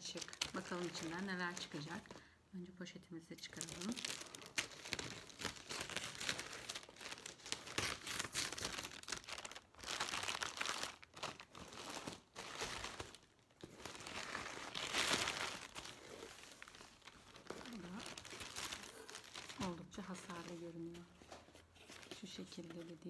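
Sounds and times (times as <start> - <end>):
plastic bag crinkling and tearing: 0.0 - 2.2, 3.4 - 23.0.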